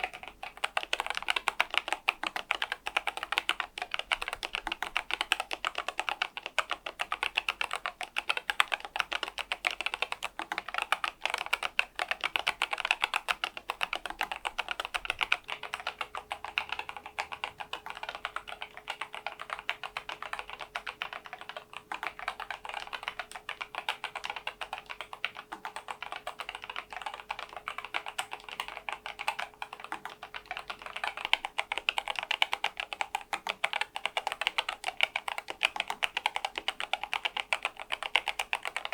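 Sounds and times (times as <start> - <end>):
keyboard typing clatter: 0.0 - 38.9.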